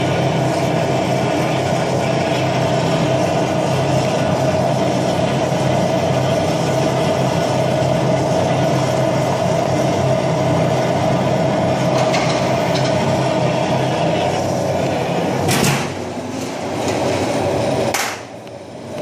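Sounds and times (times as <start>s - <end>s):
gas torch flame roaring: 0.0s - 19.0s.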